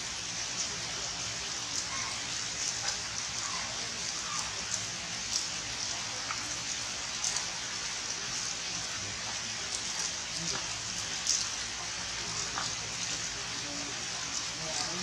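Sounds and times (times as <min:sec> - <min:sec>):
rain on foliage: 0:00.0 - 0:15.0
water drips: 0:00.0 - 0:15.0.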